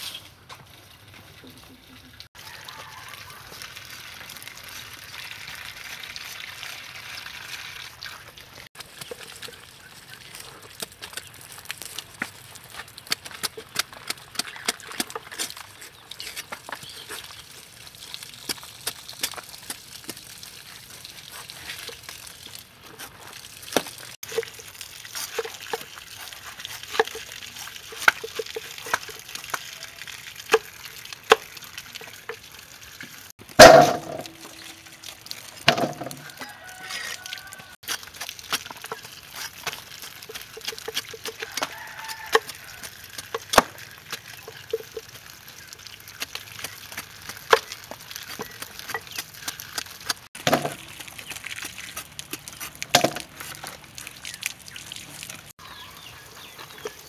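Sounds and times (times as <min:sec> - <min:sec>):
faint patter of running water: 0:00.5 - 0:13.1, 0:14.5 - 0:57.0.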